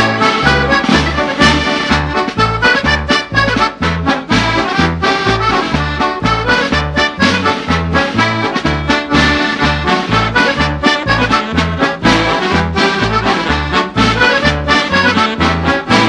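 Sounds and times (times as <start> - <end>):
lively instrumental music: 0.0 - 16.0.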